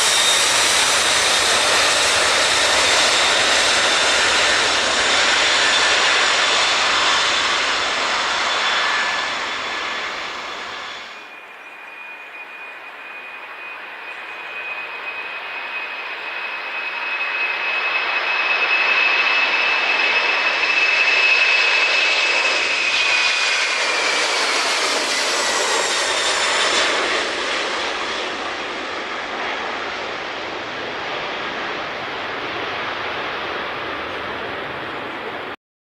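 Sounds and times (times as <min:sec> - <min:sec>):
jet engines roaring with whine: 0:00.0 - 0:35.6.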